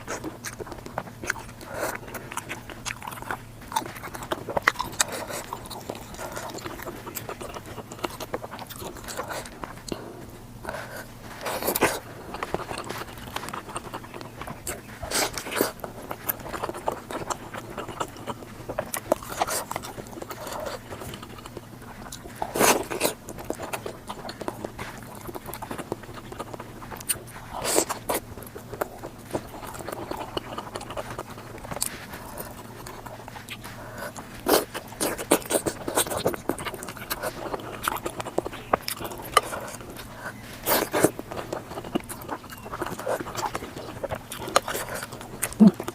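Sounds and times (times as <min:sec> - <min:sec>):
wet chewing and mouth smacking: 0:00.0 - 0:45.9.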